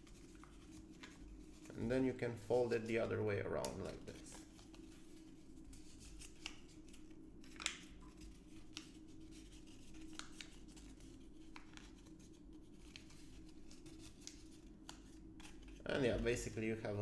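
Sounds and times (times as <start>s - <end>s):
paper crinkling and creasing: 0.0s - 17.0s.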